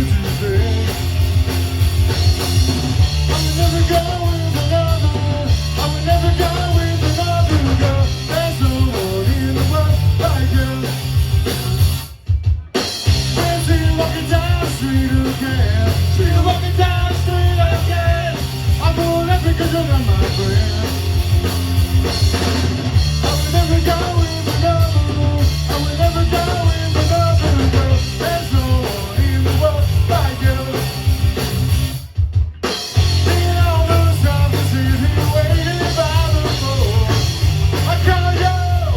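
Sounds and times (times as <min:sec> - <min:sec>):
loud rock music with singing: 0:00.0 - 0:38.9.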